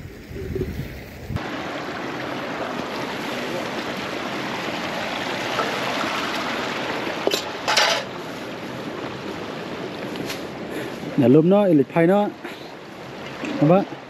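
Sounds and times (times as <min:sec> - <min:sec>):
stream and waterfall rushing: 0:01.4 - 0:14.0.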